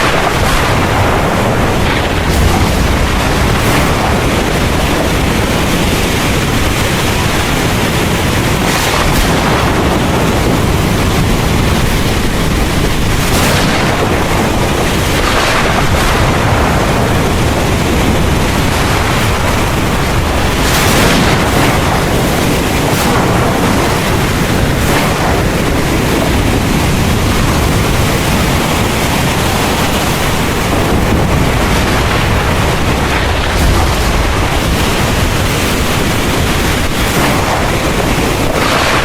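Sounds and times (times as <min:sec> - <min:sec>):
heavy rain pouring: 0:00.0 - 0:39.0
thunder rumbling: 0:00.0 - 0:39.0.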